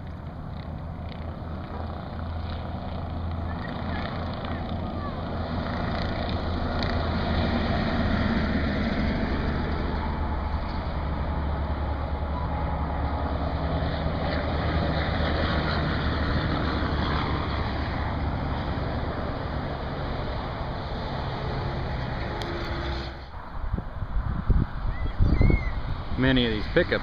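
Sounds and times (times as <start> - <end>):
diesel truck engine pulling hard: 0.0 - 23.4
highway traffic and tyre noise: 0.0 - 27.0.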